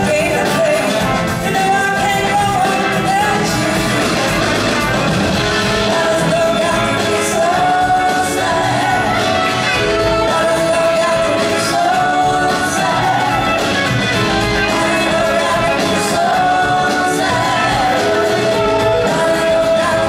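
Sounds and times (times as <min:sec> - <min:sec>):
live blues-rock band playing: 0:00.0 - 0:20.0.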